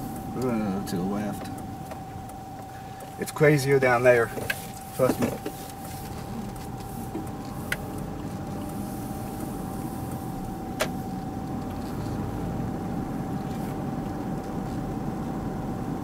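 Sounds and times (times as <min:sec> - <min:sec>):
car engine and road rumble: 0:00.0 - 0:16.0
faint steady whine: 0:00.0 - 0:16.0.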